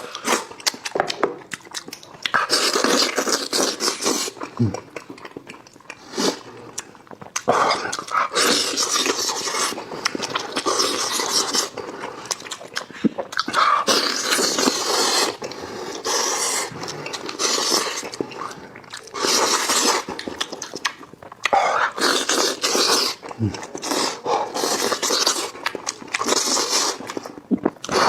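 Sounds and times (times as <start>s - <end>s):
person slurping and sucking: 2.3s - 4.9s, 6.0s - 20.7s, 21.5s - 28.0s.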